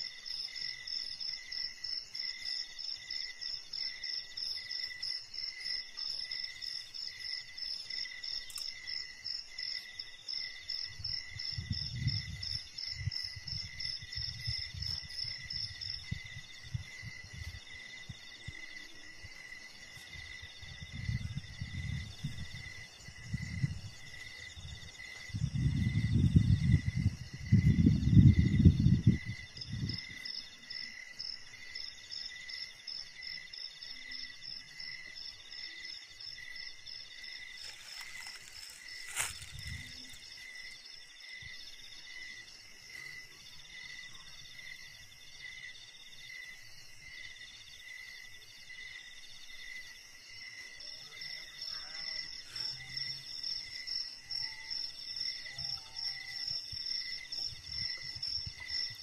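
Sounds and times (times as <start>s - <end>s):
insect chirping slowly: 0.0s - 59.0s.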